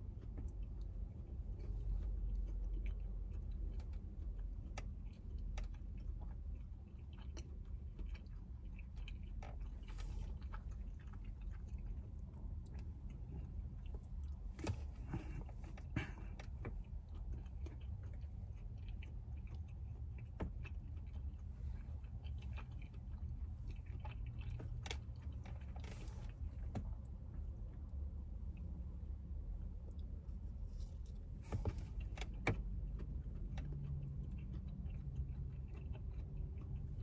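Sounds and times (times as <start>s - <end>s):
person chewing: 0.0s - 27.8s, 28.4s - 37.0s
steady low hum: 0.0s - 37.0s.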